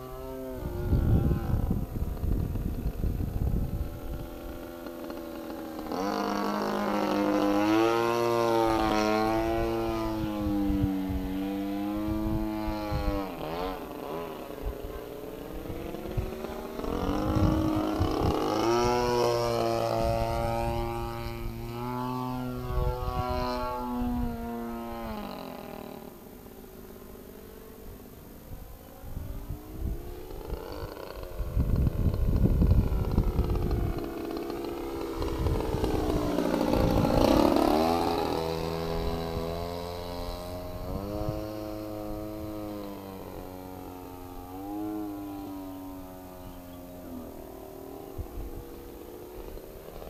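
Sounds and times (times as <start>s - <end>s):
wind rumbling on microphone: 0.0s - 26.0s, 27.8s - 50.0s
model plane engine and propeller: 0.0s - 50.0s.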